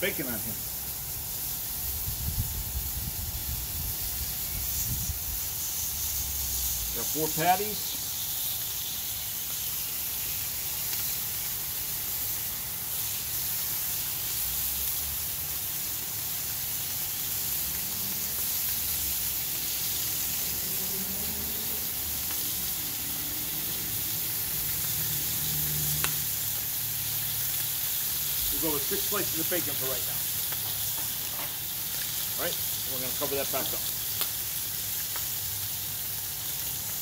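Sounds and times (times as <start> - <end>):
meat sizzling on a griddle: 0.0 - 37.0.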